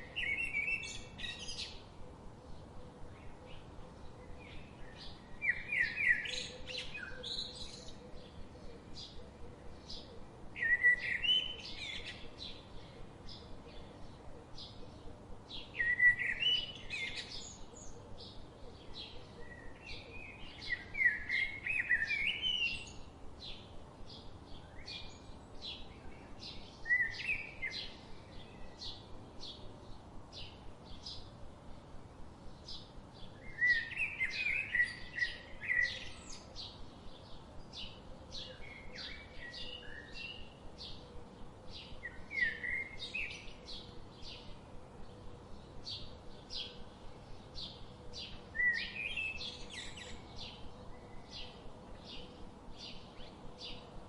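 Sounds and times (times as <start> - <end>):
bird warbling song: 0.0 - 1.9, 2.5 - 31.4, 32.5 - 54.0.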